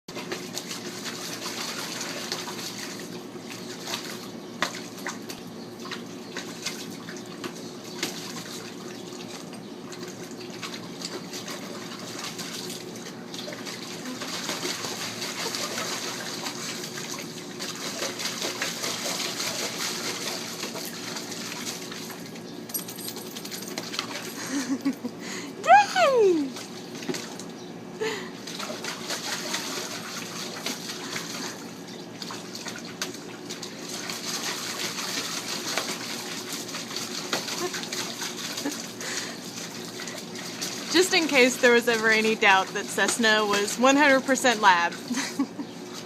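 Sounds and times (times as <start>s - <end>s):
water running steadily: 0.1s - 24.9s, 25.6s - 46.0s
puppy splashing in water: 0.1s - 25.1s, 25.7s - 46.0s.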